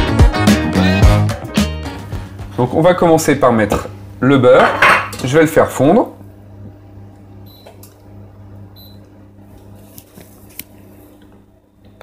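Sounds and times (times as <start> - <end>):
induction hob electrical hum: 1.9 - 12.0.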